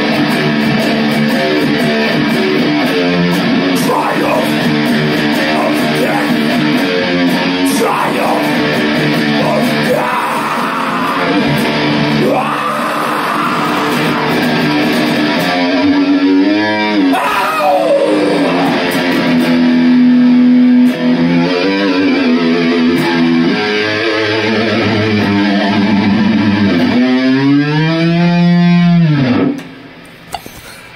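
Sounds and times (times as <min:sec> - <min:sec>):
distorted electric guitar riffs: 0:00.0 - 0:30.0.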